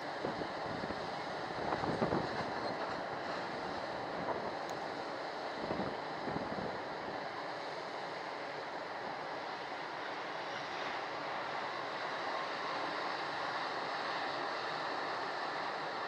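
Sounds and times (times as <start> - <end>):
electric locomotive rumbling: 0.0 - 16.0.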